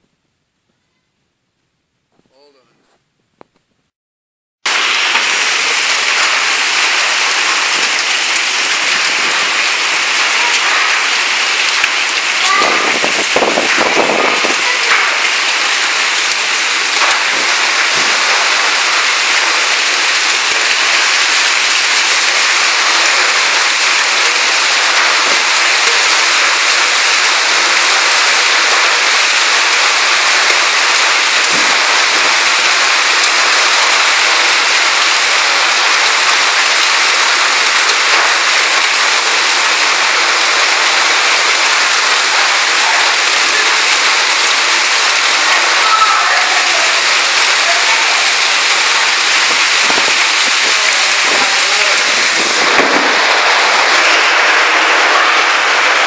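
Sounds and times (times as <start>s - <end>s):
rain and hail pattering: 4.6s - 56.0s
sharper hail hits: 4.7s - 56.0s.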